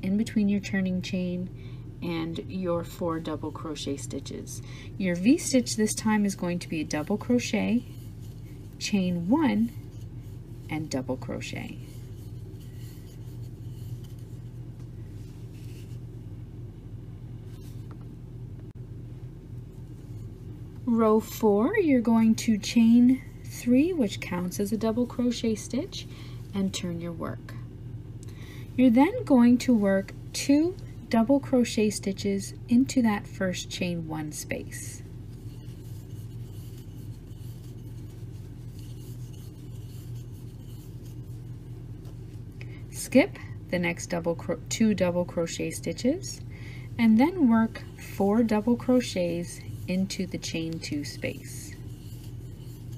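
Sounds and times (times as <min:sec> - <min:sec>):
low background hum: 0:00.0 - 0:52.9
yarn rustling on crochet hook: 0:02.0 - 0:18.0, 0:19.5 - 0:52.9.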